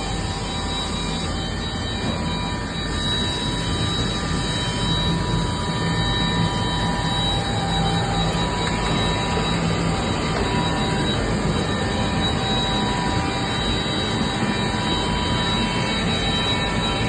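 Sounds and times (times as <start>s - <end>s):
edge banding machine running: 0.0s - 17.0s.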